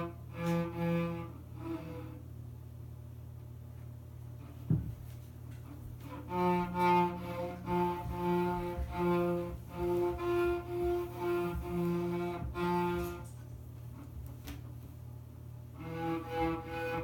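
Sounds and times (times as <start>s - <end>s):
cello bow strokes: 0.0s - 2.4s, 4.3s - 14.9s, 15.6s - 17.0s.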